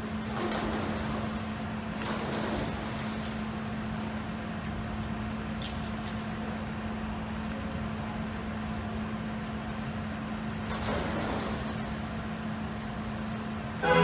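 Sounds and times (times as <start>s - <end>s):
indoor pool hum: 0.0s - 14.0s.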